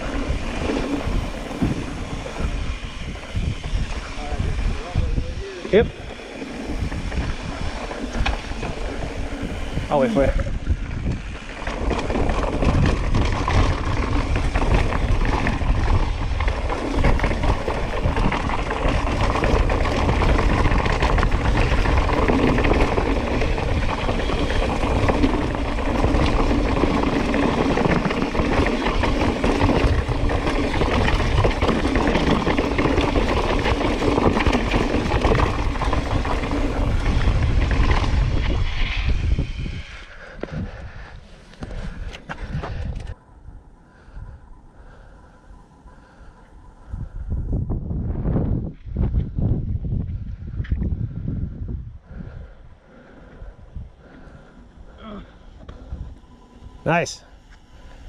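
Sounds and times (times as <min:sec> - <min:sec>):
bike tyres crunching over dirt: 0:00.0 - 0:58.0
wind buffeting microphone: 0:00.0 - 0:58.0.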